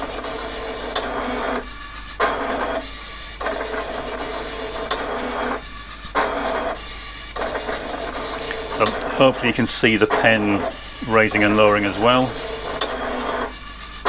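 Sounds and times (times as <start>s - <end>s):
plotter motors whirring: 0.0s - 14.0s.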